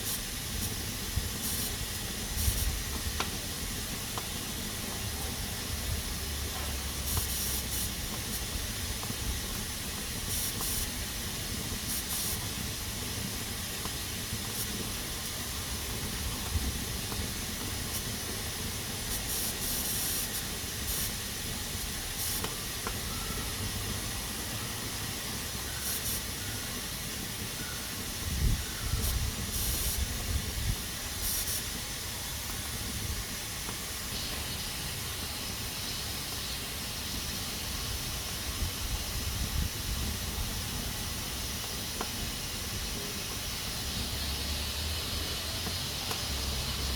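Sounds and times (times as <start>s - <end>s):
pressure cooker steam hissing: 0.0s - 46.9s.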